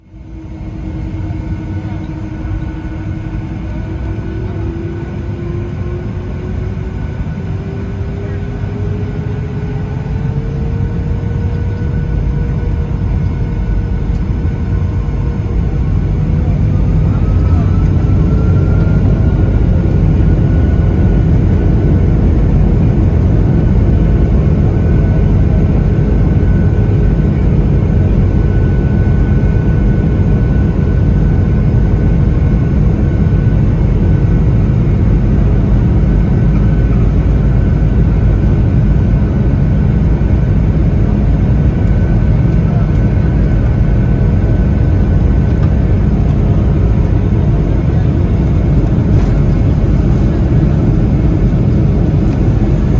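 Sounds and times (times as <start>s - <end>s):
engine whine: 0.0s - 52.9s
jet engines roaring: 0.0s - 52.9s.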